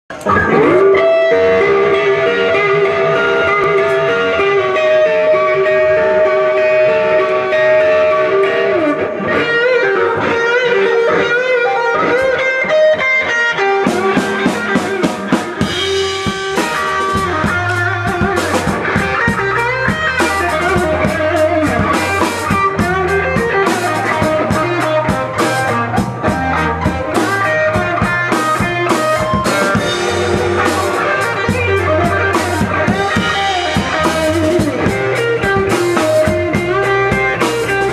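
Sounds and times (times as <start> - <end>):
drums and bass: 0.0 - 37.9
electric guitar playing blues: 0.1 - 37.9.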